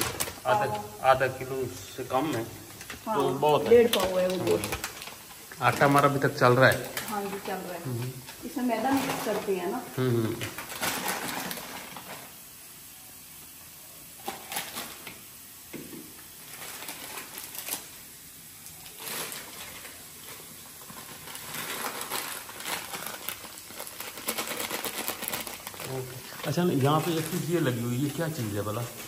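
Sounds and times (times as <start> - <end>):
low steady hiss: 0.0 - 29.0.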